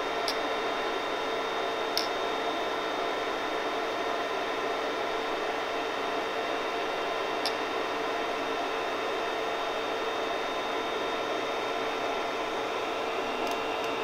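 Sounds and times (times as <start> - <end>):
cooling fans whirring: 0.0 - 14.0.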